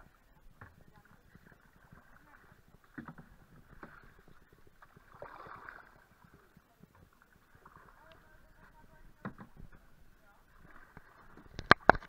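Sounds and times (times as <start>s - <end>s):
paddles splashing in water: 0.0s - 12.0s.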